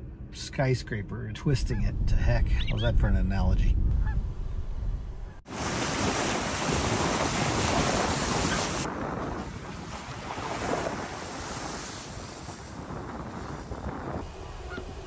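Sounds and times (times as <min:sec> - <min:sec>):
wind buffeting microphone: 0:01.6 - 0:15.0.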